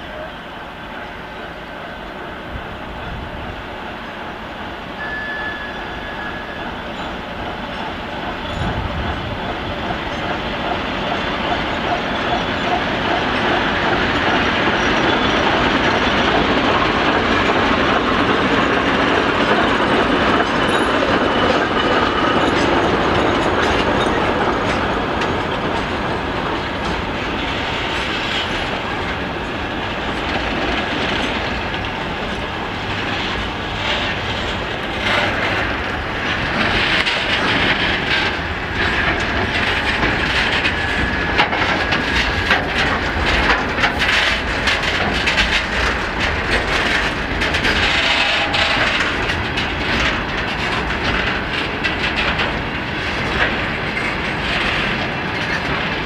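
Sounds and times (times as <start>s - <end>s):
diesel locomotive passing: 0.0s - 56.0s
wagon wheels clacking on rails: 4.2s - 56.0s.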